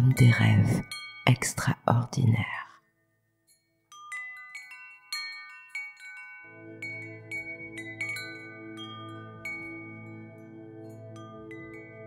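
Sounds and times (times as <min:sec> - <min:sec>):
wind chimes ringing: 0:00.0 - 0:01.5, 0:03.0 - 0:12.0.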